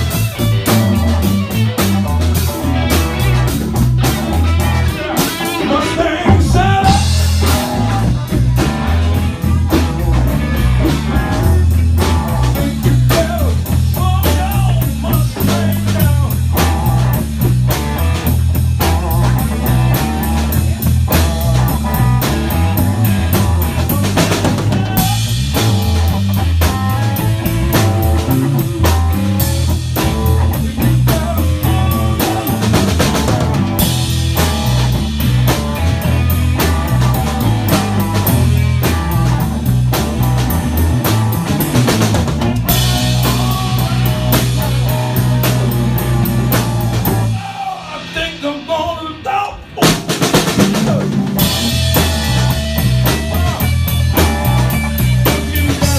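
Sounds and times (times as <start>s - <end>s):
rock blues band playing: 0.0s - 55.9s.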